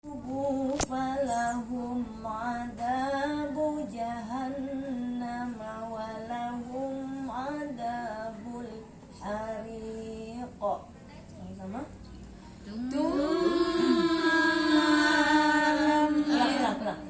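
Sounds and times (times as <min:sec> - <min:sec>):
woman chanting recitation: 0:00.0 - 0:17.0.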